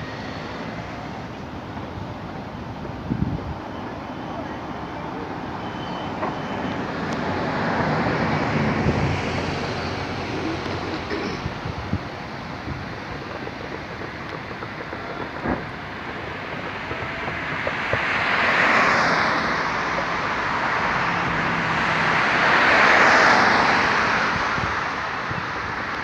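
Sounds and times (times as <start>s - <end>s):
road traffic rush: 0.0s - 26.0s
vehicles passing close by: 0.0s - 26.0s.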